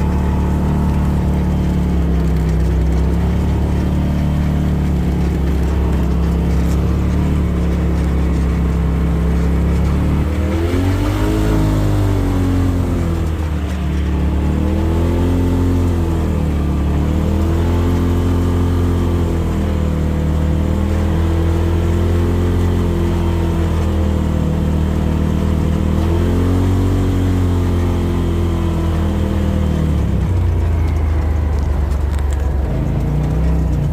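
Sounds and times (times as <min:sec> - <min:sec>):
vehicle engine revving: 0:00.0 - 0:33.9.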